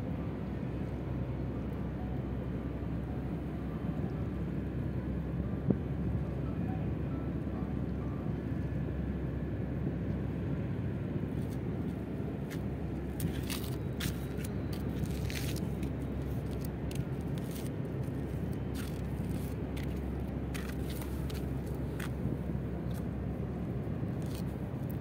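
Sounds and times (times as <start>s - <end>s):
low harbour rumble: 0.0s - 25.0s.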